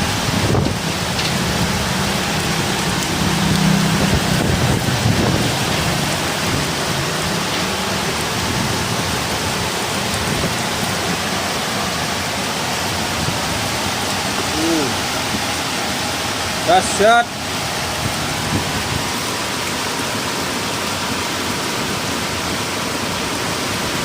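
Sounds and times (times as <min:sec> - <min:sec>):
strong wind: 0:00.0 - 0:20.8
heavy rain downpour: 0:00.0 - 0:24.0.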